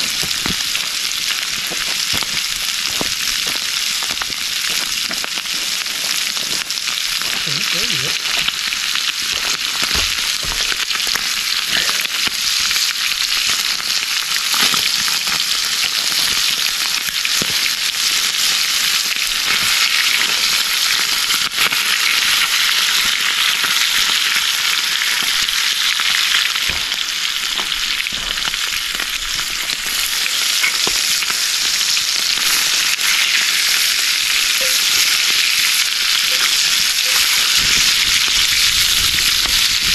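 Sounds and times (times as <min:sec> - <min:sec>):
meat sizzling in a skillet: 0:00.0 - 0:39.9.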